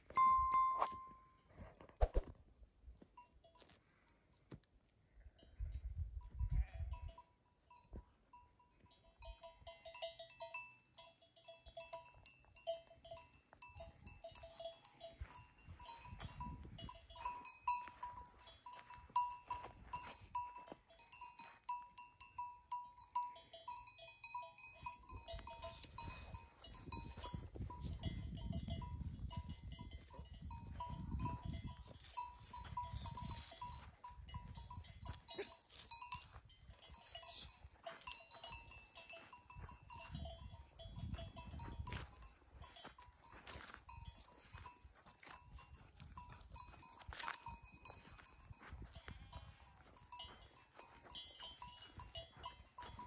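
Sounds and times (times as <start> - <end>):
animal bells clinking: 0.0 - 1.5, 3.0 - 4.4, 5.3 - 53.0.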